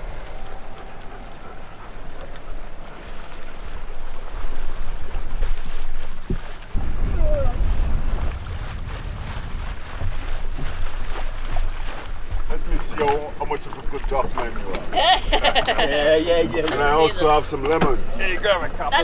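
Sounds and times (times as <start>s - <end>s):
water washing along a hull: 0.0s - 19.0s
wind buffeting the microphone: 0.0s - 19.0s.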